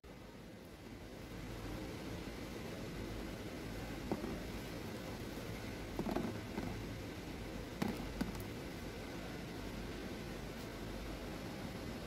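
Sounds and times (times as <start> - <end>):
room tone hiss: 0.0 - 12.0.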